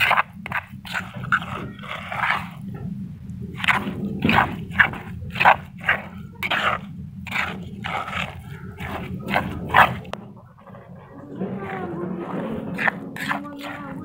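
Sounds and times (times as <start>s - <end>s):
hand kneading wet paste: 0.0s - 14.0s
steady low hum: 0.0s - 14.0s.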